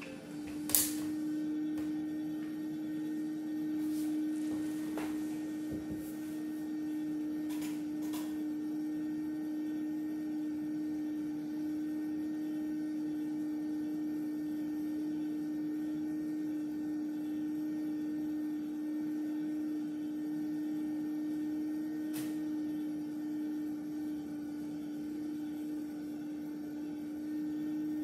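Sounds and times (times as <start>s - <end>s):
machinery hum: 0.0s - 28.0s.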